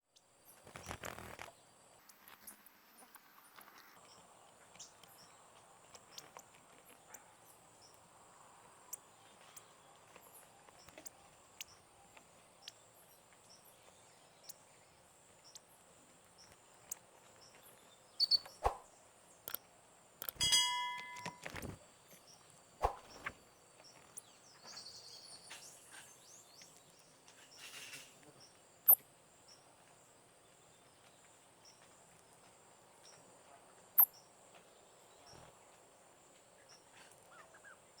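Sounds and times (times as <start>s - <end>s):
birds chirping: 0.1s - 38.0s.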